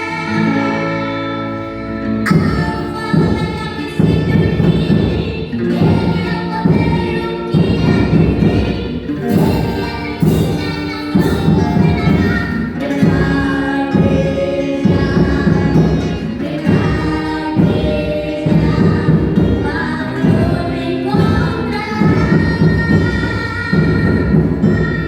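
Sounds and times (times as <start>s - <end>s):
choir-like voices singing: 0.0s - 25.0s
drums beating steady rhythm: 0.0s - 25.0s.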